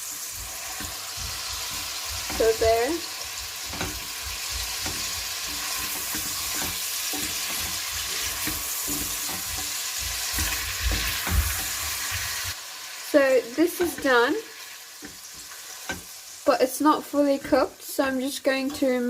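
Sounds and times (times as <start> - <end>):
spatula knocking and scraping pan: 0.0 - 12.6, 13.6 - 16.2, 17.2 - 19.0
chicken sizzling in hot oil: 0.0 - 19.0.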